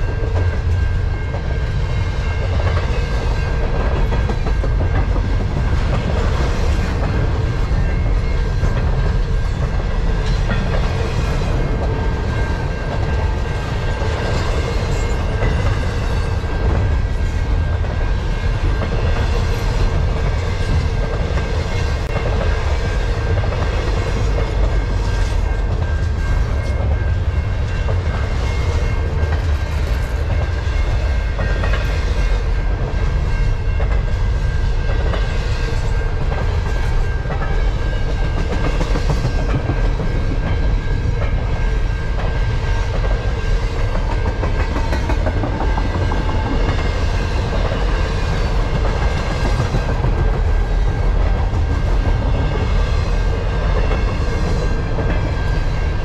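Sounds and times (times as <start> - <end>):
steel wheels rumbling on rail: 0.0 - 56.0
train cars clickety-clack: 0.0 - 56.0.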